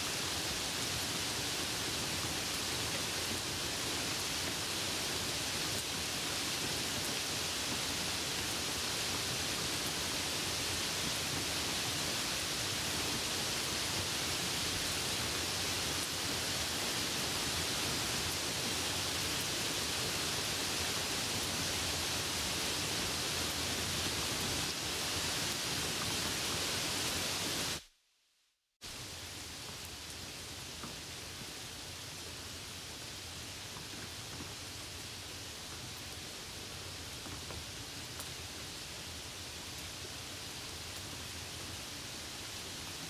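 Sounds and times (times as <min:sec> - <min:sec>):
rain hissing: 0:00.0 - 0:27.9, 0:28.8 - 0:43.0.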